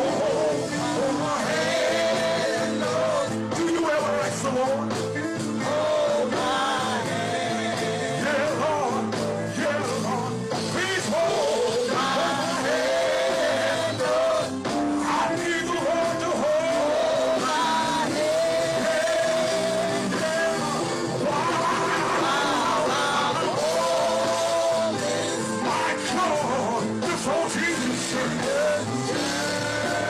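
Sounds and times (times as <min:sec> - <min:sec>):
gospel singing with instruments: 0:00.0 - 0:30.0.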